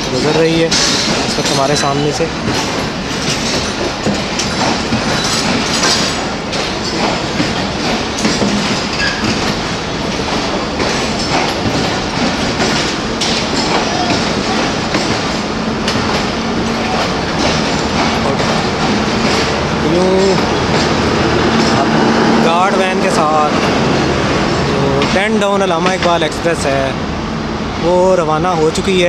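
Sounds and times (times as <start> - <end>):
train wheels clattering over rail joints: 0.0 - 26.9.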